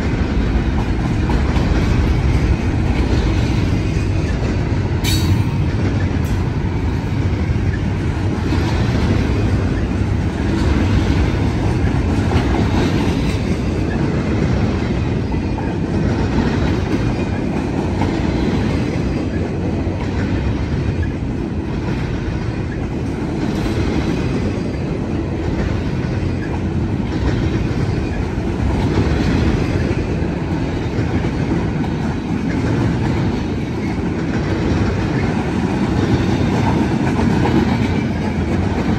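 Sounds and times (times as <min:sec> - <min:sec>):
train wheels rumbling on rail: 0:00.0 - 0:38.9
wheels clickety-clack over joints: 0:00.0 - 0:38.9.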